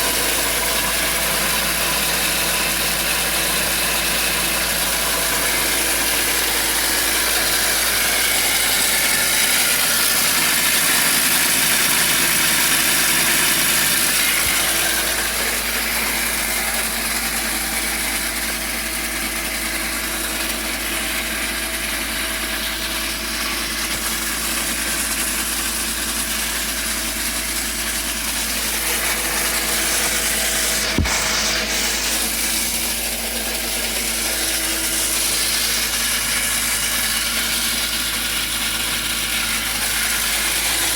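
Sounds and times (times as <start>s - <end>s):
car engine idling: 0.0s - 40.9s
continuous screeching from engine: 0.0s - 40.9s.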